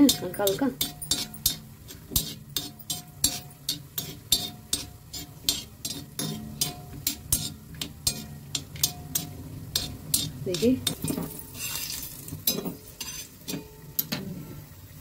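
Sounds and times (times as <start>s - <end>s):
steel spoon scraping and tapping: 0.0s - 14.2s
faint sizzle: 0.0s - 15.0s.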